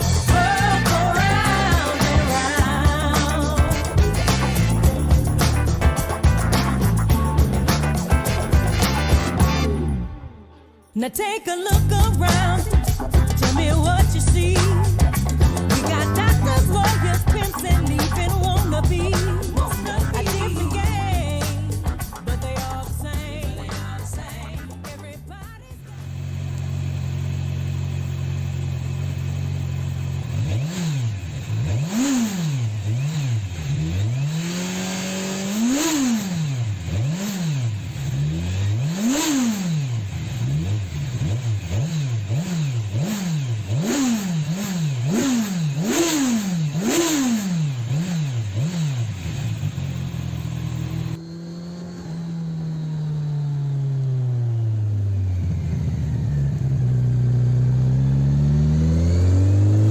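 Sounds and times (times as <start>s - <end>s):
motorcycle engine revving: 0.0s - 10.4s, 11.7s - 59.9s.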